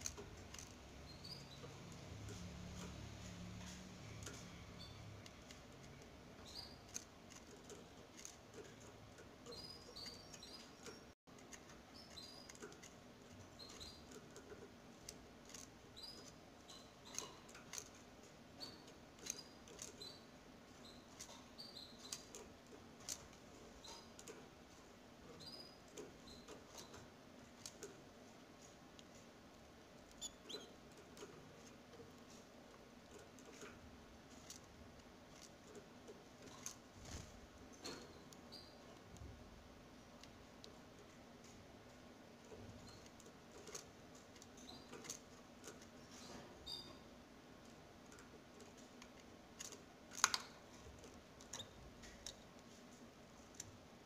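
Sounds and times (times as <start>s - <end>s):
nestlings peeping: 0.0s - 54.0s.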